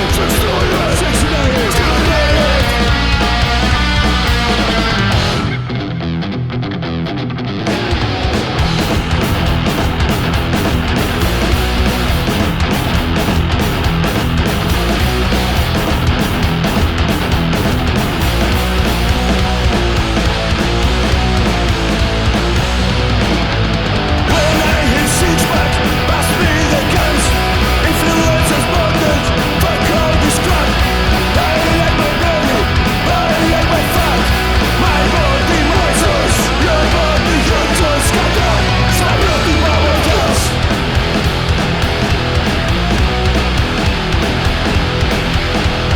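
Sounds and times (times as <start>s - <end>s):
punk rock band playing: 0.0s - 45.9s.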